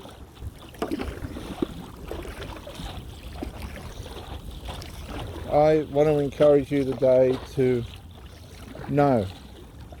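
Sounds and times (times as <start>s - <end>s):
paddle splashing in water: 0.0s - 10.0s
wind rumble on microphone: 0.0s - 10.0s.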